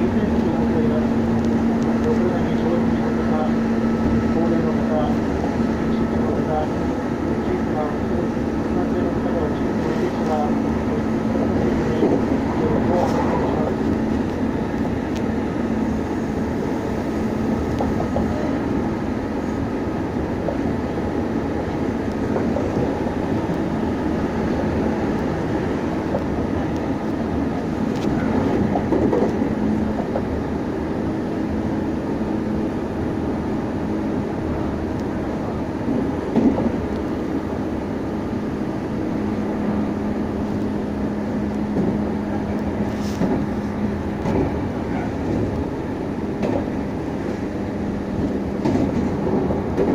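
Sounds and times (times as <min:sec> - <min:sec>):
train motor hum: 0:00.0 - 0:49.9
train wheels rumbling on rail: 0:00.0 - 0:49.9.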